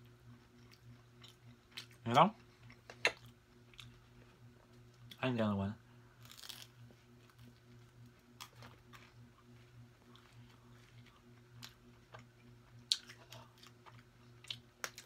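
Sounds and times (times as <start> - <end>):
low electrical hum: 0.0 - 15.0
person chewing: 0.3 - 5.2, 6.2 - 15.0.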